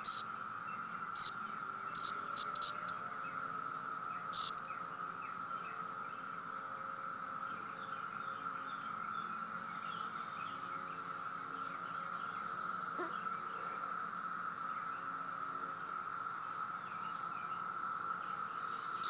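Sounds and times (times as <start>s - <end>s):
cicada chorus drone: 0.0s - 19.0s
harsh cicada buzz: 0.0s - 19.0s.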